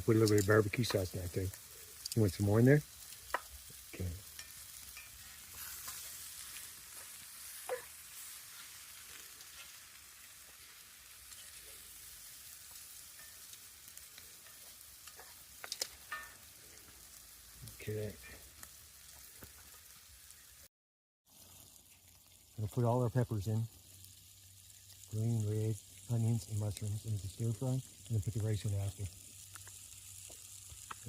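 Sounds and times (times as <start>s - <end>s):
chicken sizzling in a pan: 0.0s - 20.7s, 21.3s - 31.0s.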